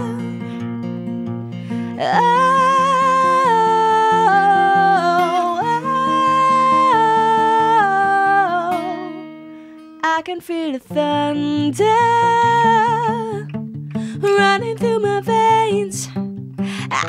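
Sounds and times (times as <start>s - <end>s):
woman singing wordless notes: 0.0s - 0.4s, 2.0s - 9.3s, 10.0s - 16.2s, 16.8s - 17.0s
strummed acoustic guitar: 0.0s - 17.0s.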